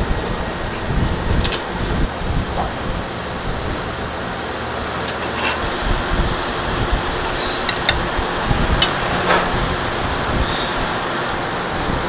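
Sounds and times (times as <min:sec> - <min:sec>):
ventilation fan noise: 0:00.0 - 0:12.0.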